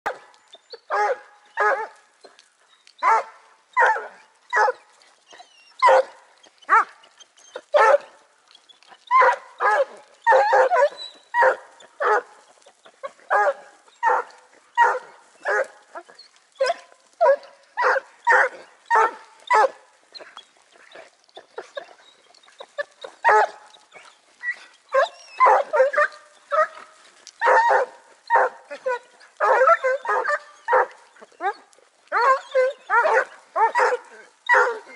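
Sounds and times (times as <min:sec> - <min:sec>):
hounds barking and baying: 0:00.0 - 0:34.9.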